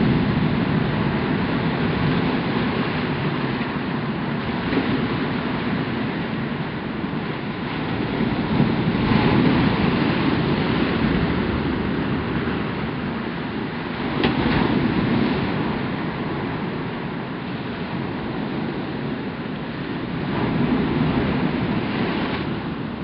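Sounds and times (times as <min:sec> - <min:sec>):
ocean surf on rocky shore: 0:00.0 - 0:23.0.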